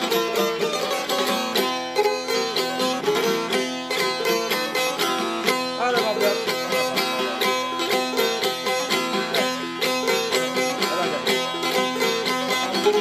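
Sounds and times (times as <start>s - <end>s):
lutes plucked briskly: 0.0s - 13.0s.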